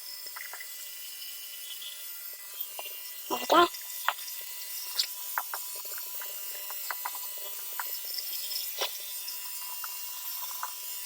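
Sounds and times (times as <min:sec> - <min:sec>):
small parts and tools clicking: 0:00.0 - 0:11.0.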